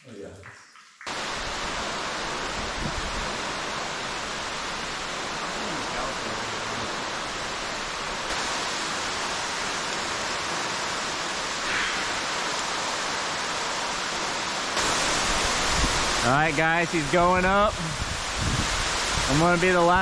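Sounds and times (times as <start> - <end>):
cave waterfall rushing: 1.1 - 20.0.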